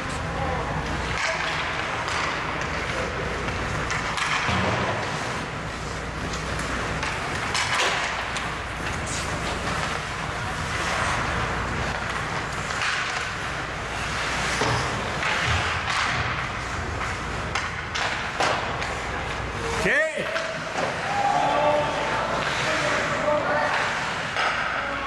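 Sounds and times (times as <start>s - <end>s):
hockey sticks and puck clacking: 0.0s - 25.0s
skates scraping on ice: 0.0s - 25.0s.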